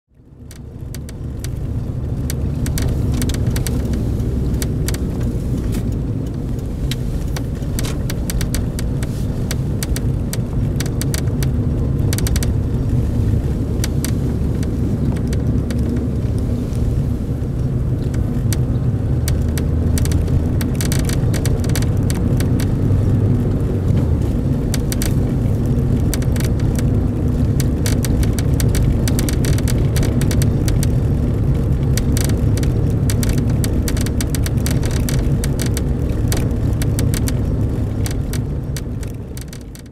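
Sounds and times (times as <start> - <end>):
car engine rumble: 0.1 - 39.9
plastic panel ticking: 0.4 - 16.5, 17.6 - 39.9.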